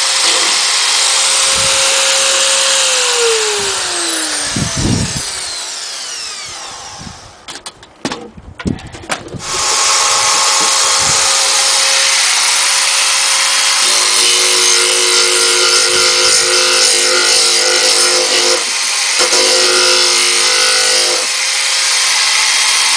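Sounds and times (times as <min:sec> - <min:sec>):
angle grinder whine: 0:00.0 - 0:07.5, 0:09.4 - 0:22.9.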